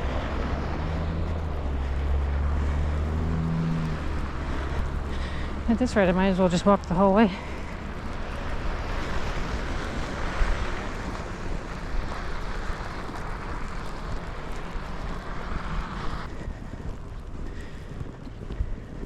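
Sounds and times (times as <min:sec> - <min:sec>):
street traffic hiss: 0:00.0 - 0:16.4
wind buffeting microphone: 0:00.0 - 0:19.0.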